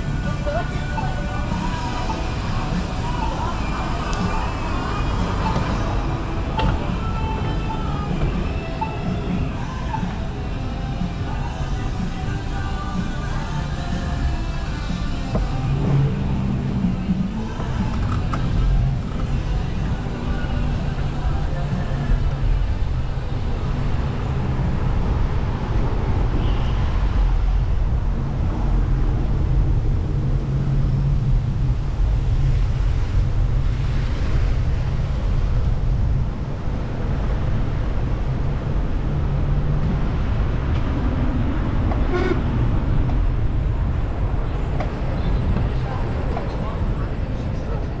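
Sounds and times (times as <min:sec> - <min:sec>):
city street traffic: 0:00.0 - 0:48.0.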